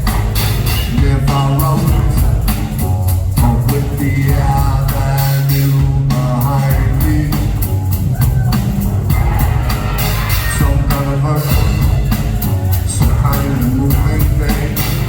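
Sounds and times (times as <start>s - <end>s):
drum kit with cymbals: 0.0s - 15.0s
heavy bass line: 0.0s - 15.0s
live rock band playing: 0.0s - 15.0s
person singing: 0.8s - 15.0s.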